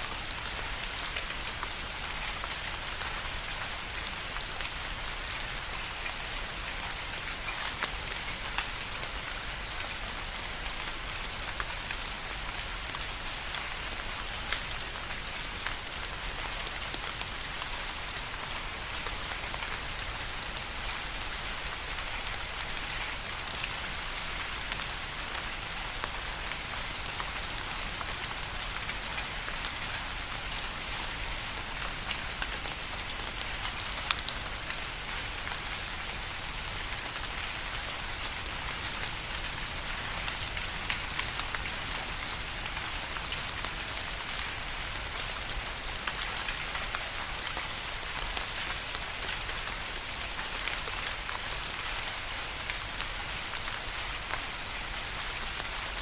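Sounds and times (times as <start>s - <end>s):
raindrops pattering on a surface: 0.0s - 56.0s
steady rain hiss: 0.0s - 56.0s.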